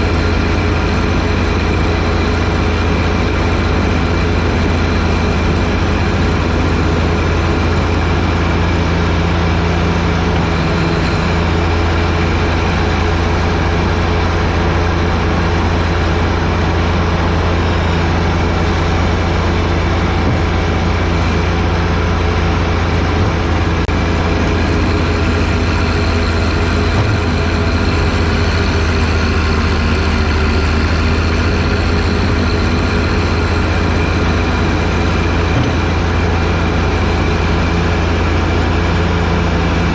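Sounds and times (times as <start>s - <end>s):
snowblower running: 0.0s - 39.9s
tractor diesel engine running: 0.0s - 39.9s.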